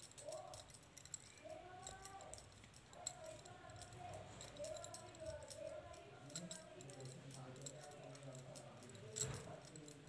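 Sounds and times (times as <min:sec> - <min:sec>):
knitting needles clicking: 0:00.0 - 0:10.0.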